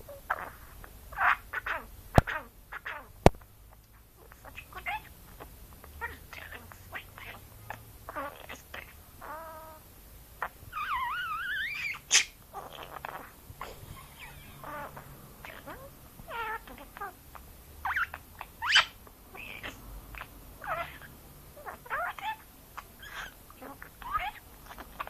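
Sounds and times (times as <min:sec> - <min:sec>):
budgerigar chattering: 0:00.1 - 0:09.8, 0:10.4 - 0:25.0.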